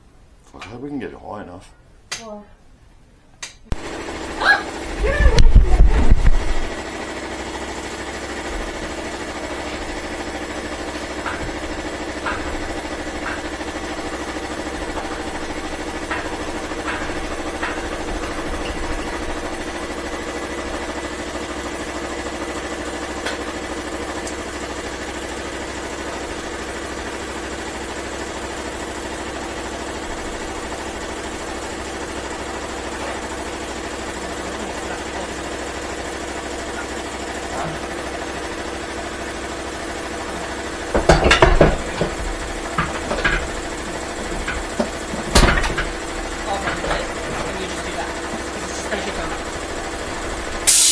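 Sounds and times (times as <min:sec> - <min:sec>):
motor humming: 0:03.7 - 0:50.9.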